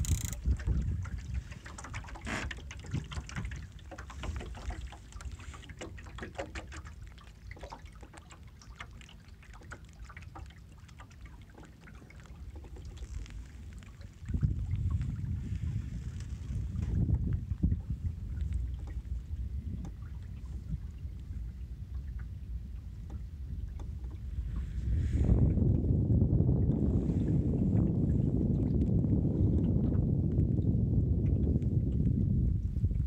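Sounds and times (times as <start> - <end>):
wind buffeting microphone: 0.0 - 7.6, 11.2 - 33.0
water lapping against wooden hull: 0.0 - 33.0.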